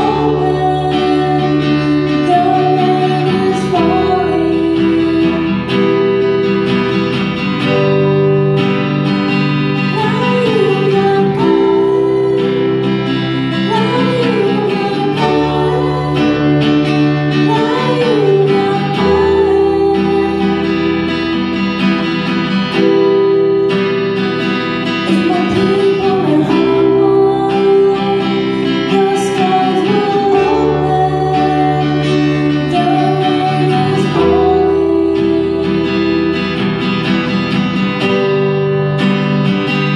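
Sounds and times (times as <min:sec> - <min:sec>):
woman singing: 0:00.0 - 0:08.0, 0:09.4 - 0:37.1
guitar: 0:00.0 - 0:39.9
keyboard sustained chords: 0:00.0 - 0:39.9.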